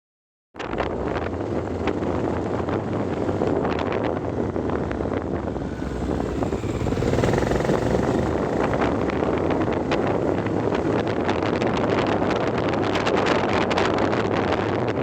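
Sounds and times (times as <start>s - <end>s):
vehicle engine and road noise: 0.6s - 15.0s.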